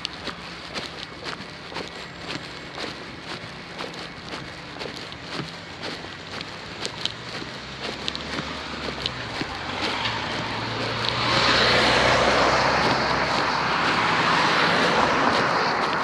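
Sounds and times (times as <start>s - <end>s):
motor vehicle passing: 0.0s - 16.0s.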